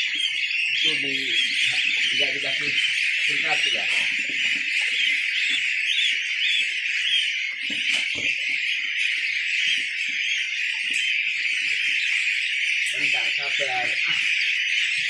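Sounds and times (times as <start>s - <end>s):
goslings peeping: 0.0s - 15.0s.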